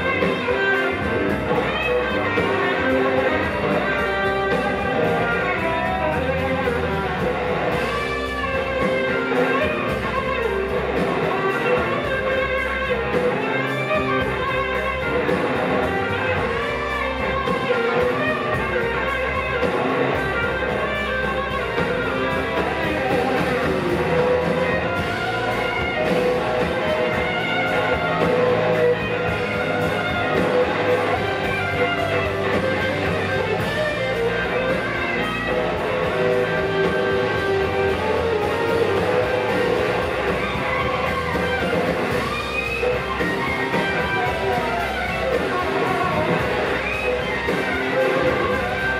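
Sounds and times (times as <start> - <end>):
blues-rock band playing: 0.0 - 48.9
electric guitar lead: 0.0 - 48.9.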